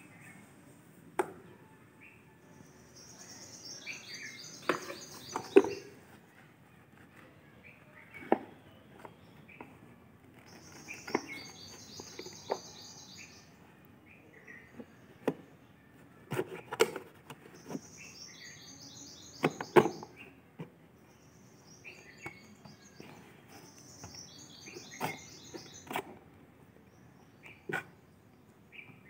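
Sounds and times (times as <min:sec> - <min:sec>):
bird chirping: 0:01.4 - 0:06.5, 0:07.2 - 0:15.9, 0:16.6 - 0:26.2, 0:26.8 - 0:29.0.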